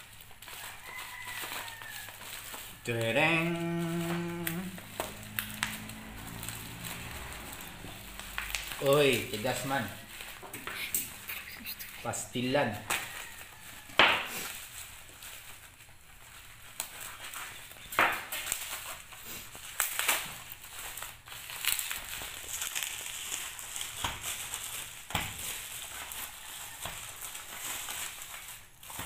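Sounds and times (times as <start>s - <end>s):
bubble wrap crinkling: 0.0s - 29.0s.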